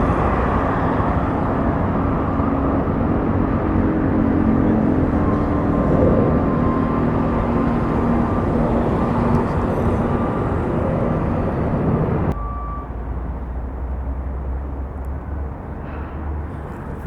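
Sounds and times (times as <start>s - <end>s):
low engine hum: 0.0s - 17.0s
traffic noise: 0.0s - 17.0s.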